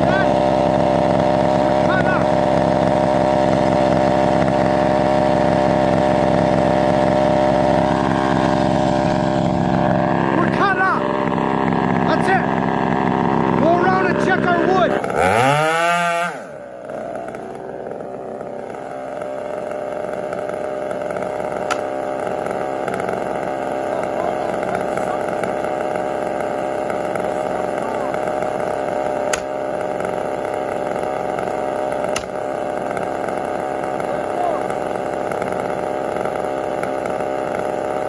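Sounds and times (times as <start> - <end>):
chainsaw idling: 0.0 - 38.0.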